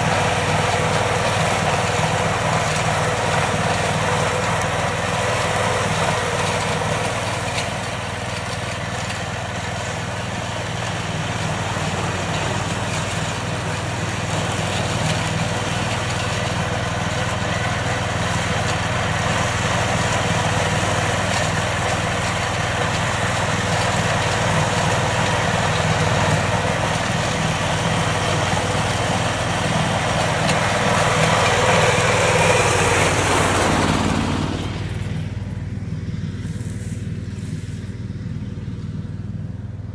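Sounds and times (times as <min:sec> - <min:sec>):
cutter cutting tall grass: 0:00.0 - 0:39.9
ride-on mower running: 0:00.0 - 0:39.9.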